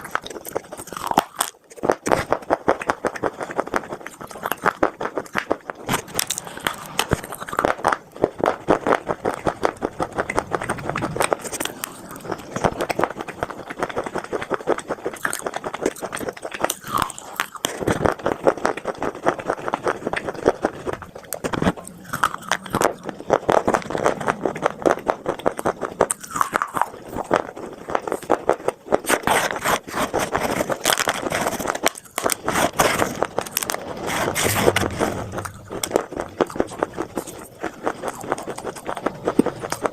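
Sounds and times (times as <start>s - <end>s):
crunching and chewing dry clay: 0.0s - 39.9s.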